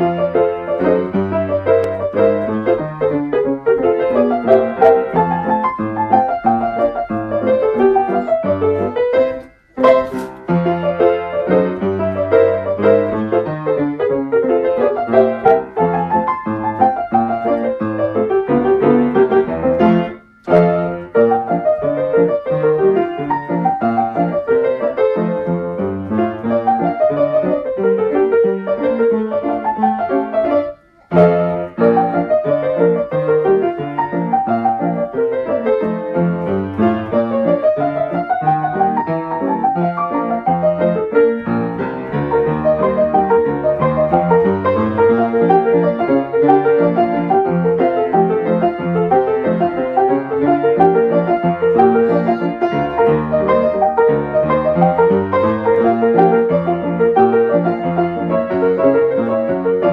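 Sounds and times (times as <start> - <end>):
player piano playing: 0.0 - 59.9.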